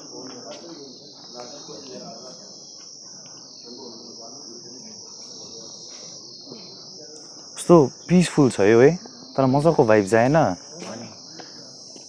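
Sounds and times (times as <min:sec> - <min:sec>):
faint voices talking: 0:00.0 - 0:12.0
insects droning: 0:00.0 - 0:12.0.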